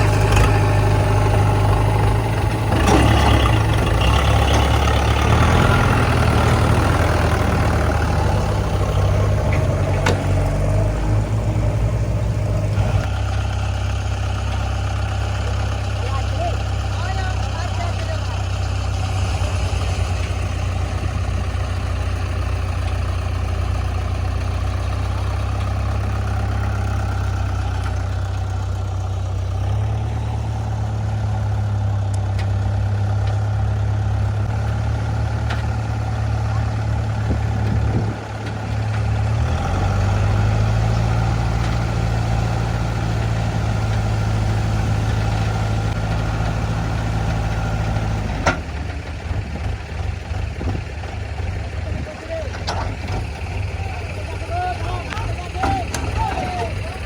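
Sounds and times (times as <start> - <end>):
diesel machinery engine running: 0.0 - 57.0.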